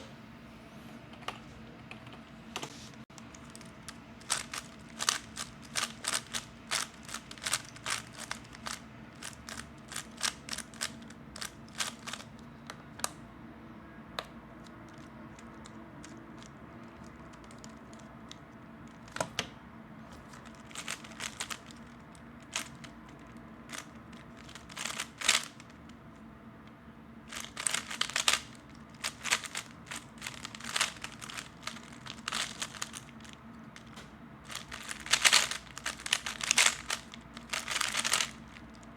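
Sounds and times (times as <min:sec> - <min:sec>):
puzzle cube plastic clicking: 0:03.2 - 0:13.2, 0:14.2 - 0:19.4, 0:20.4 - 0:25.8, 0:27.3 - 0:38.9.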